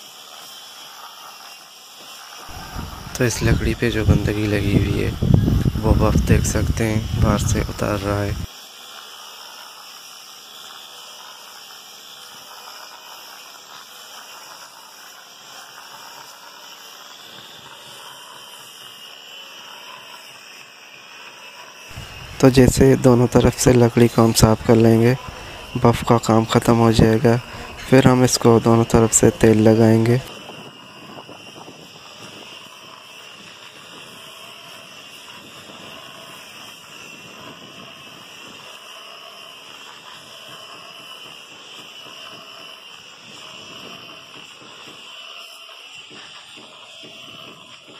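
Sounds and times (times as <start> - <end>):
electric buffer running: 0.0 - 47.9
rotary sander on wood: 0.0 - 47.9.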